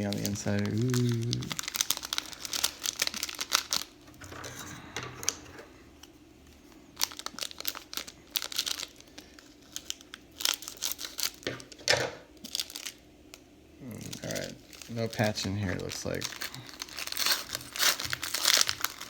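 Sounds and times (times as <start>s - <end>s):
wrapper crinkling and tearing: 0.0s - 4.5s, 6.9s - 19.0s.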